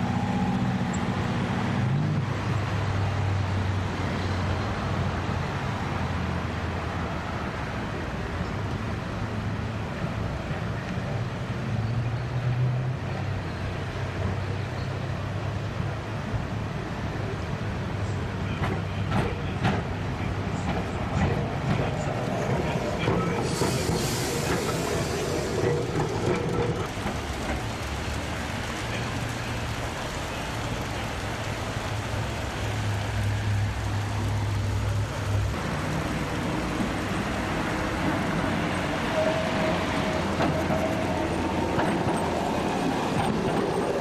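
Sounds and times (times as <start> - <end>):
tram wheel and rail noise: 0.0 - 44.0.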